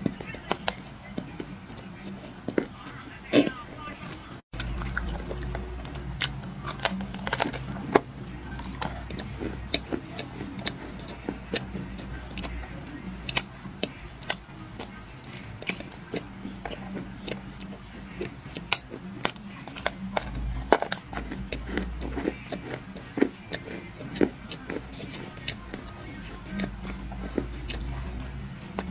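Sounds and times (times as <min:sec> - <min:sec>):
dry clay crunching and crackling: 0:00.0 - 0:28.9
steady low hum: 0:00.0 - 0:28.9.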